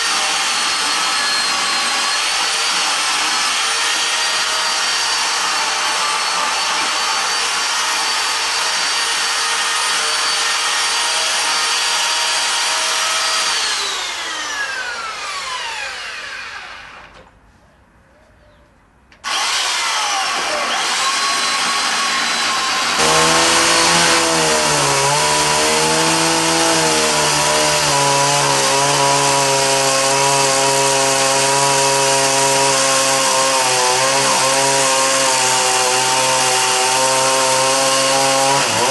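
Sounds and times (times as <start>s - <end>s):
chainsaw cutting wood: 0.0s - 17.2s, 19.2s - 38.9s.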